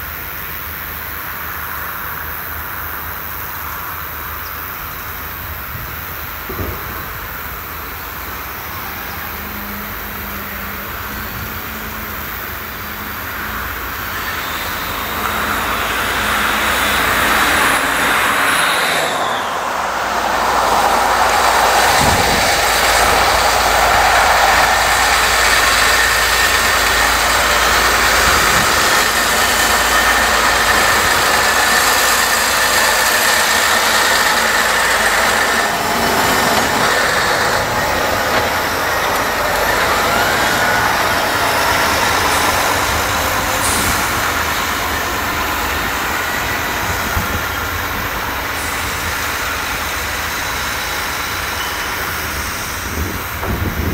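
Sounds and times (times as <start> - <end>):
diesel tractor engines under load: 0.0 - 53.9.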